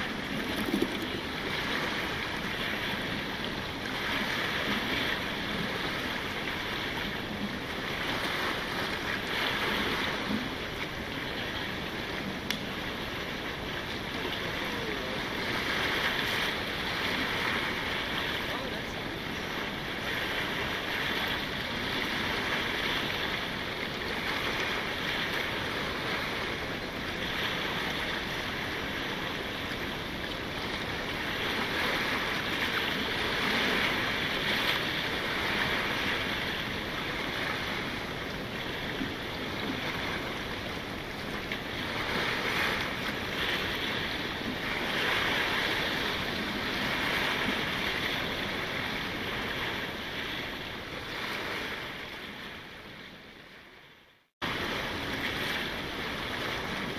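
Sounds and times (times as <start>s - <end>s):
waves washing over pebbles: 0.0s - 52.6s, 54.4s - 56.9s.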